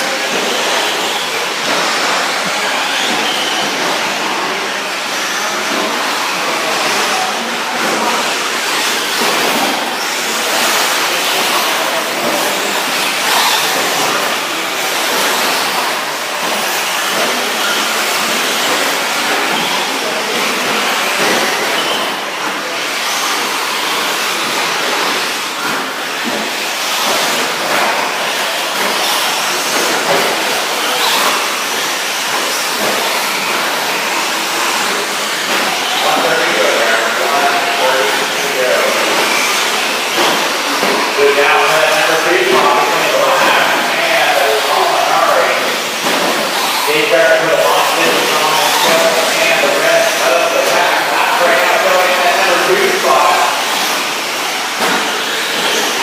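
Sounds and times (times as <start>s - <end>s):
rc trucks motor and tyre noise: 0.0s - 56.0s.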